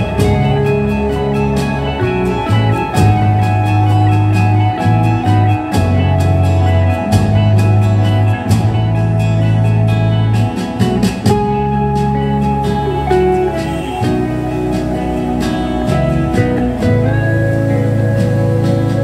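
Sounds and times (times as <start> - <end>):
music through speakers: 0.0 - 19.0.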